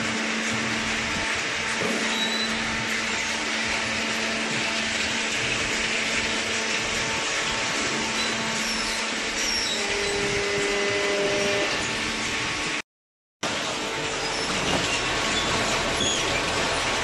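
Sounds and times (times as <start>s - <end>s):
electric motor and pump whirring: 0.0s - 12.8s, 13.4s - 17.0s.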